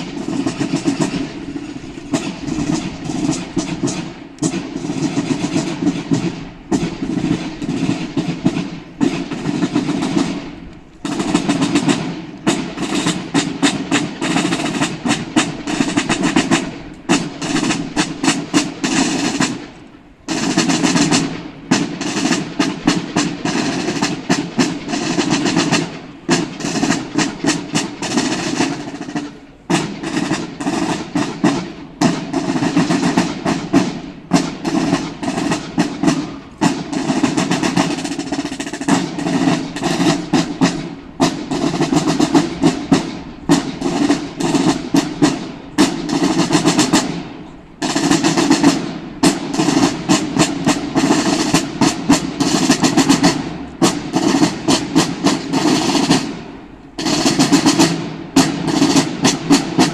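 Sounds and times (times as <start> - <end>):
snare drums marching rhythm: 0.0 - 59.9.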